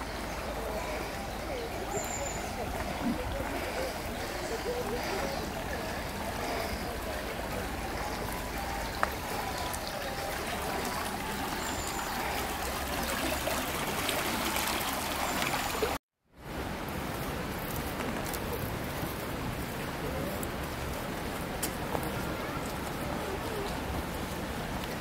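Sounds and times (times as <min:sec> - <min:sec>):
water rushing along channel: 0:00.0 - 0:25.0.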